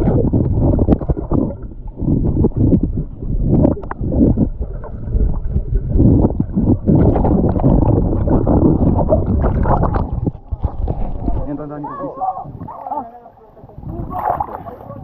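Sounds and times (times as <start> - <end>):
bubbling: 0.0 - 15.0
underwater churning and sloshing: 0.0 - 15.0.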